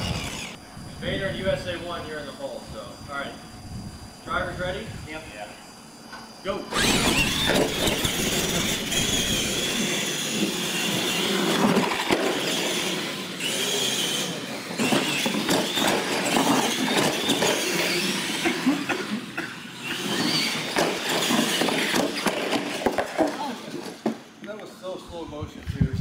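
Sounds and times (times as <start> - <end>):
electric motor and gear whine: 0.0 - 25.9.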